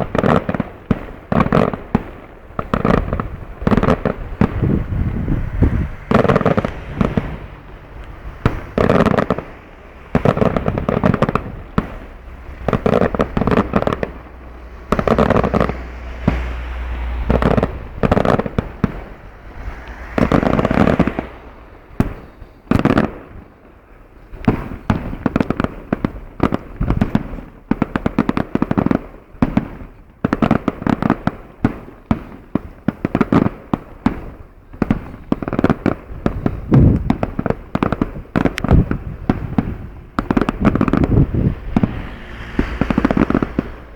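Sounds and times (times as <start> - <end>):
fireworks banging: 0.0 - 43.9.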